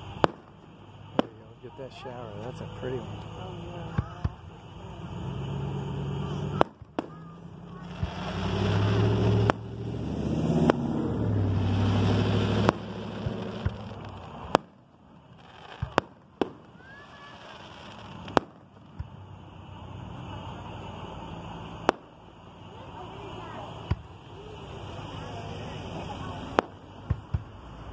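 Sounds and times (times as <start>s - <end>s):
firework shells bursting: 0.0s - 27.9s.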